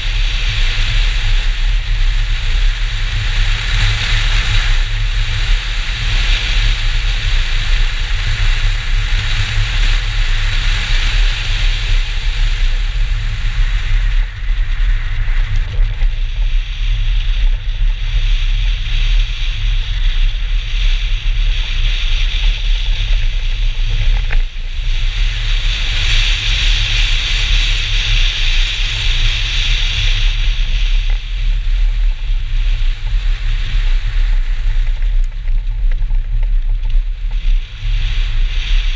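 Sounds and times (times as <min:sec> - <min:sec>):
tyres churning through snow: 0:00.0 - 0:38.9
wind rush on microphone: 0:00.0 - 0:38.9.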